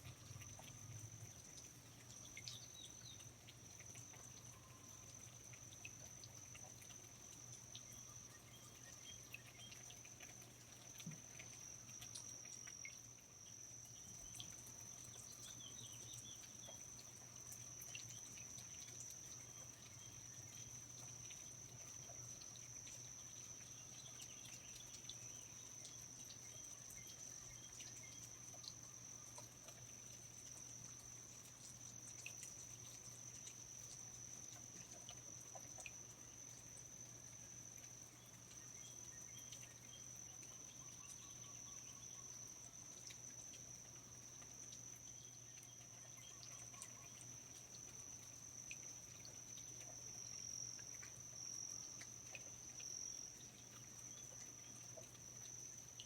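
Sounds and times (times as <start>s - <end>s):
insect trilling: 0.0s - 56.0s
light drips: 0.0s - 56.0s
small chirps: 0.0s - 56.0s.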